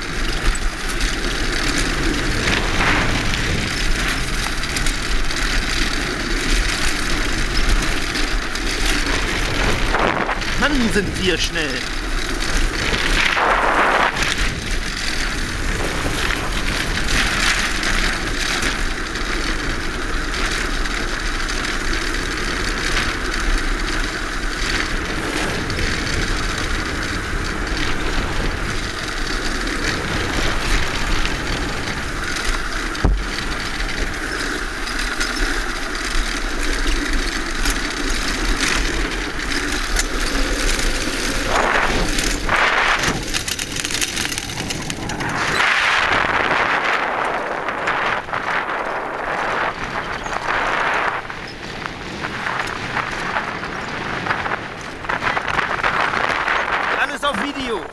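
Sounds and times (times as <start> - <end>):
wheels running on sand: 0.0 - 57.9
wind buffeting microphone: 0.0 - 57.9.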